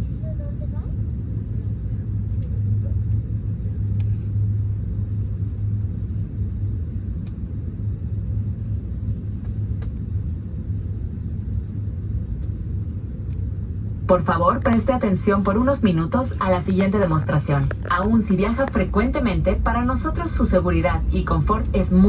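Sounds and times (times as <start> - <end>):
jet engines idling: 0.0 - 22.0.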